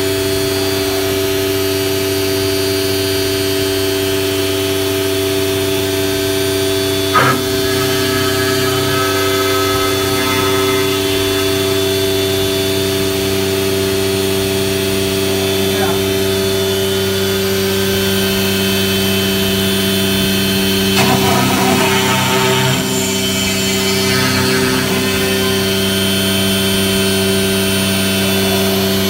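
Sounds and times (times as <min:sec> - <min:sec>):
router spindle whining: 0:05.1 - 0:29.0.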